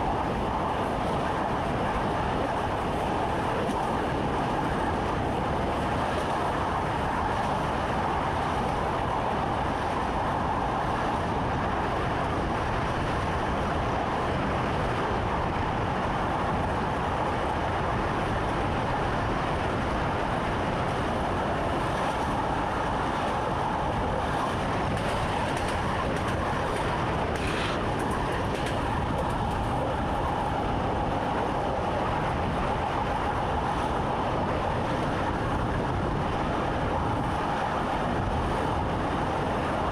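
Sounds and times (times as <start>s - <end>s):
electric train rumbling: 0.0s - 39.9s
wheel and rail noise: 0.0s - 39.9s.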